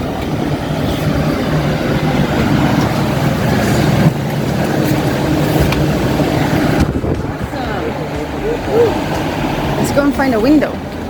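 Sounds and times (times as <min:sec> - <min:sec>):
ferry engines rumbling: 0:00.0 - 0:11.0.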